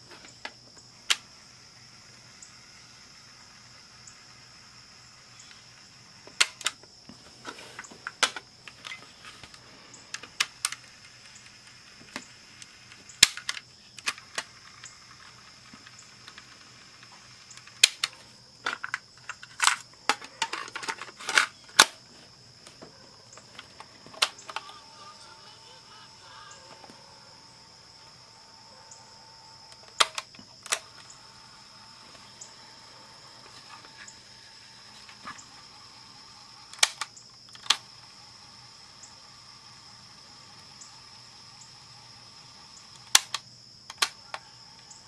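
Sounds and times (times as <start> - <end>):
faint high whine: 0.0 - 45.0.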